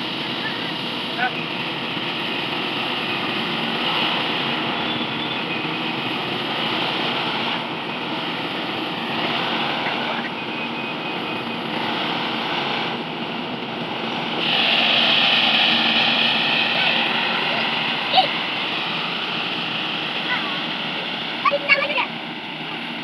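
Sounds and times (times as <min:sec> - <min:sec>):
combine harvester running: 0:00.0 - 0:23.0.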